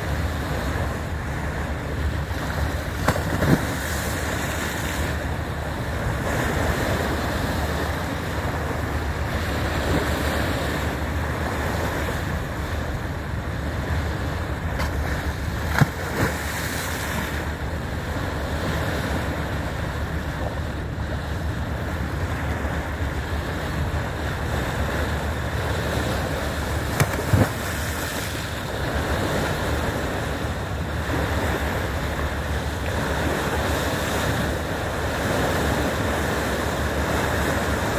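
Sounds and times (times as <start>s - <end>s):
bow wave rushing along hull: 0.0s - 37.9s.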